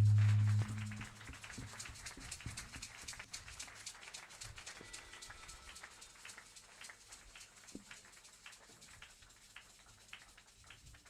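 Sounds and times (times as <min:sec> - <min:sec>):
congregation clapping: 0:00.0 - 0:11.0.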